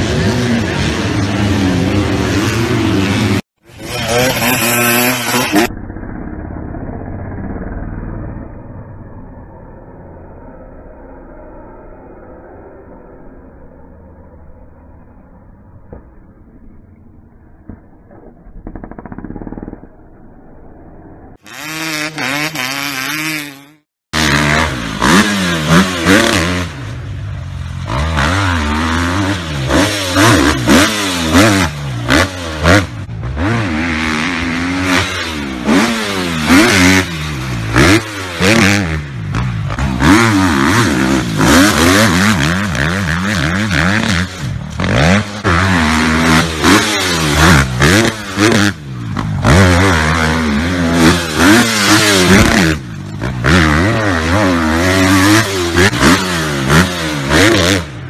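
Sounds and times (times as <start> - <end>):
dirt bike engine revving: 0.0 - 9.8, 21.3 - 58.0.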